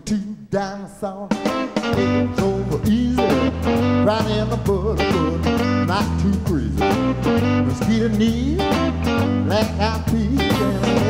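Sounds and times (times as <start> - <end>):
bass guitar: 0.6 - 11.0
electric guitar: 1.1 - 11.0
drums: 1.2 - 11.0.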